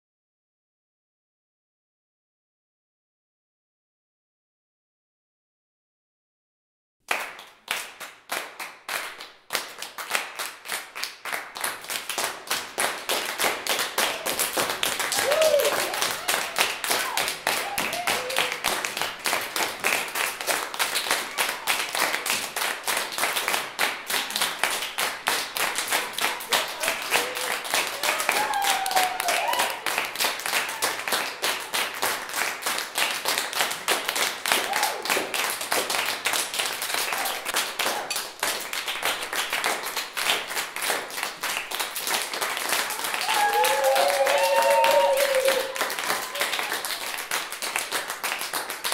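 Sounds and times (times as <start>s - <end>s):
many hands clapping: 7.0s - 48.9s.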